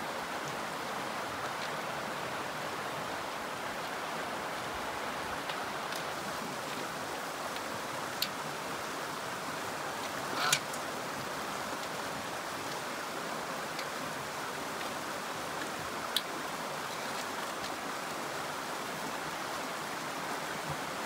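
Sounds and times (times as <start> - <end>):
stream running over rocks: 0.0 - 21.0.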